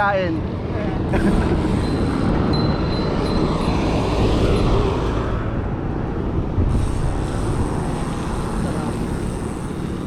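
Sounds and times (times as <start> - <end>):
bike road noise: 0.0 - 10.0
wind rumbling on microphone: 0.3 - 10.0.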